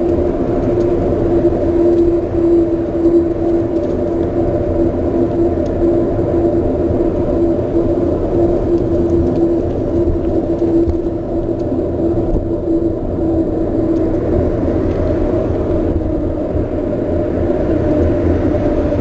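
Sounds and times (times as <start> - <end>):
faint steady hum: 0.0 - 19.0
wind noise on microphone: 0.0 - 19.0.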